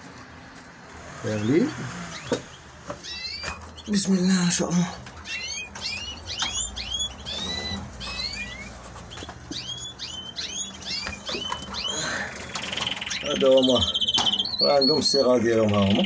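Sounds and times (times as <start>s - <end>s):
canaries chirping: 0.0s - 16.0s.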